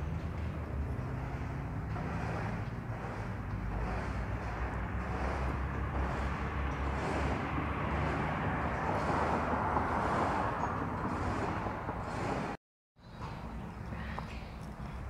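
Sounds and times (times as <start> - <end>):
vehicle passing: 0.0 - 12.6
road traffic: 0.0 - 15.0.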